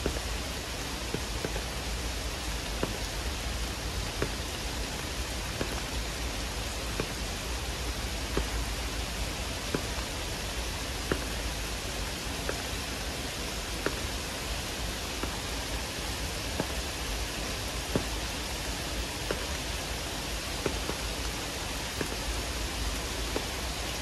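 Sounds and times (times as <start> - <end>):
heavy rain falling: 0.0 - 24.0
sharp ticks of raindrops: 0.0 - 24.0.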